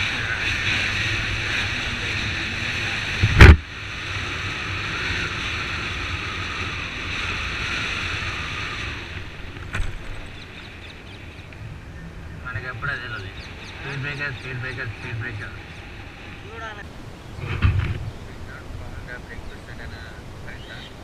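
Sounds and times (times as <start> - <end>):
motorcycle engine and tyre rumble: 0.0 - 21.0
wind rushing over microphone: 0.0 - 21.0.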